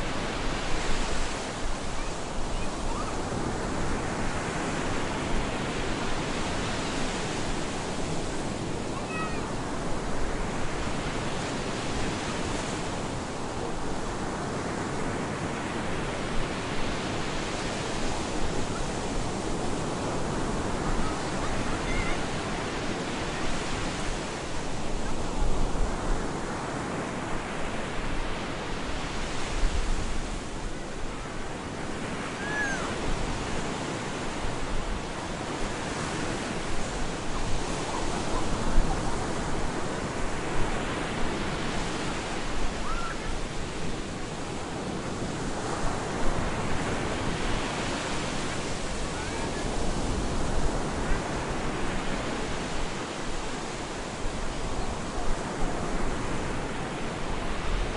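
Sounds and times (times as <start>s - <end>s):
surf breaking on a beach: 0.0s - 57.9s.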